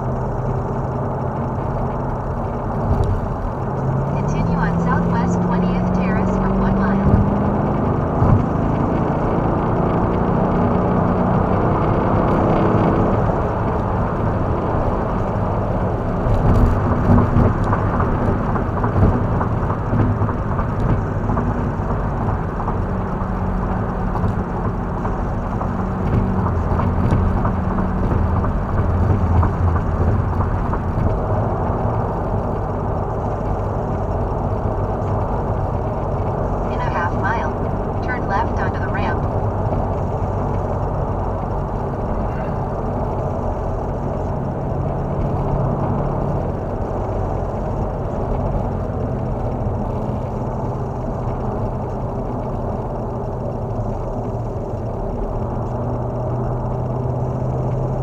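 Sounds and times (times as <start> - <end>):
car engine cruising: 0.0 - 58.0
tyre and road noise: 0.0 - 58.0.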